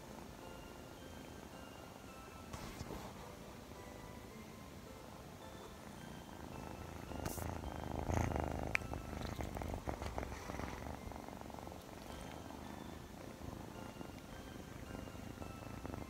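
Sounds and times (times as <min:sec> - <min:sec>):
kitten purring: 0:00.0 - 0:04.1, 0:05.4 - 0:16.0.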